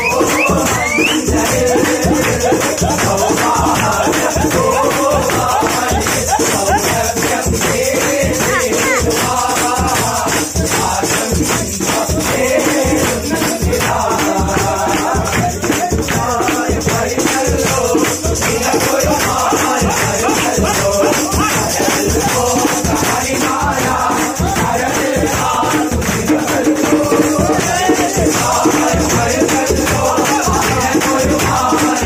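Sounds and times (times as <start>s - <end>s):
hand claps: 0.0s - 32.0s
hand drums: 0.0s - 32.0s
men singing together: 0.0s - 32.0s
shaker: 0.0s - 32.0s.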